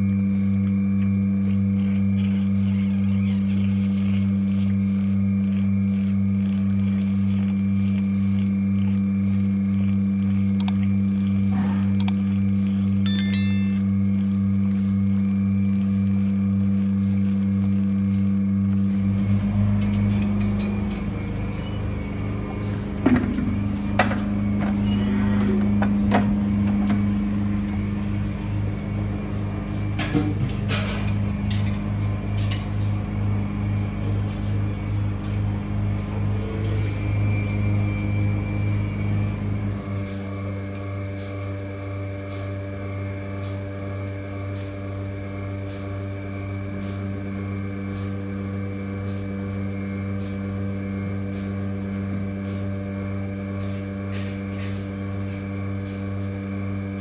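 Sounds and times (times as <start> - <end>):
loud low electric hum: 0.0 - 57.0.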